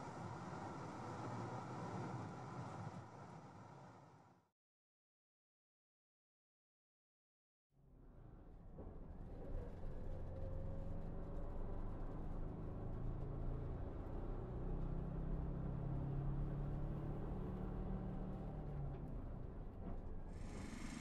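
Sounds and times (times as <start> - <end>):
vehicle engine and road noise: 0.0 - 4.3, 7.8 - 21.0.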